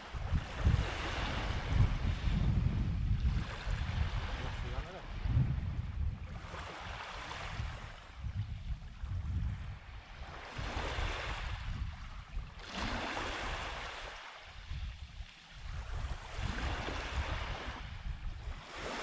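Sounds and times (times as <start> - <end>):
small waves breaking on shore: 0.0 - 19.0
wind rumble on microphone: 0.0 - 19.0.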